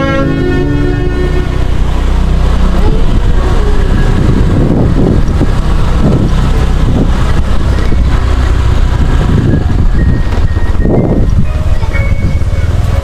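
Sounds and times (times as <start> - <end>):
motorcycle engine rumbling: 0.0 - 13.0
wind buffeting microphone: 0.0 - 13.0.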